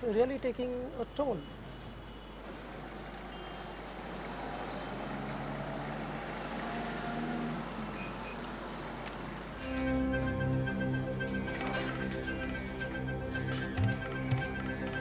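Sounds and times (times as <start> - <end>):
traffic din: 0.0 - 15.0.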